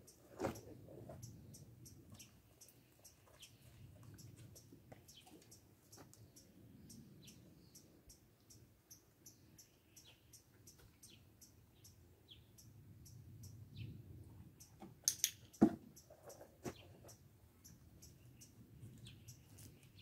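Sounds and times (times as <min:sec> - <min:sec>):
high chirps of small birds: 0:00.1 - 0:20.0.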